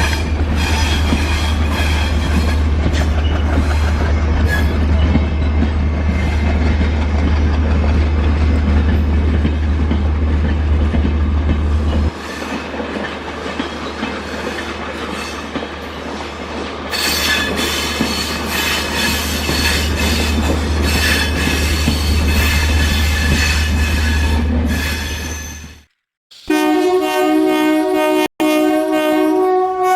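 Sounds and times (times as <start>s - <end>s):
train wheels squealing and clattering: 0.0s - 27.0s
train rumbling along track: 0.0s - 28.2s.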